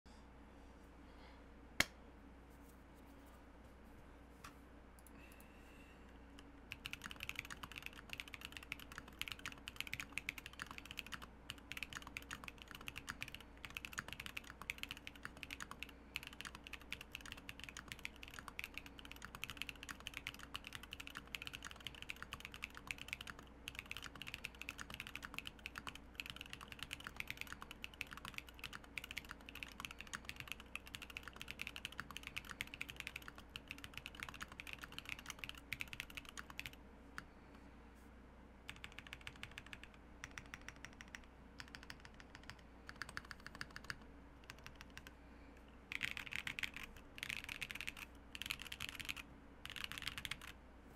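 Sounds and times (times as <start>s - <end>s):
mechanical keyboard typing: 6.7s - 36.8s, 38.7s - 45.1s, 45.9s - 50.6s.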